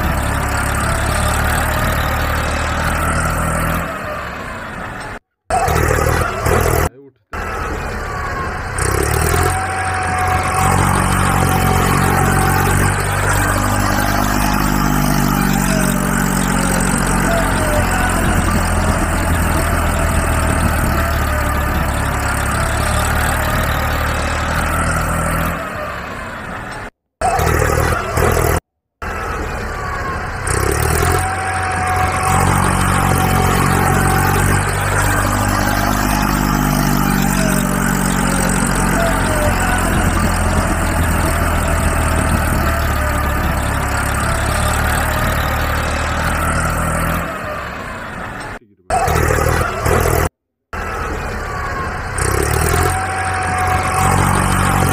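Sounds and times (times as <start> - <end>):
vehicle engine revving: 0.0 - 54.9.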